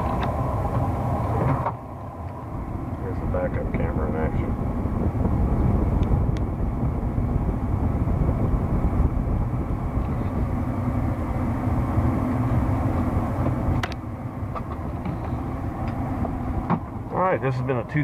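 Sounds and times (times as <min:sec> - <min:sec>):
road noise: 0:00.0 - 0:18.0
truck engine rumbling: 0:00.0 - 0:18.0.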